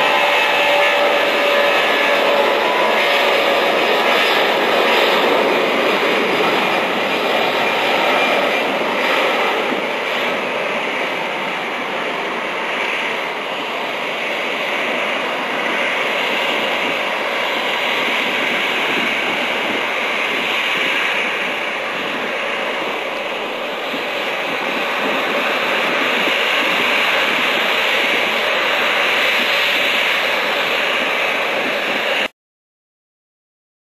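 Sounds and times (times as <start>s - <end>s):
jet engines at takeoff: 0.0s - 32.3s.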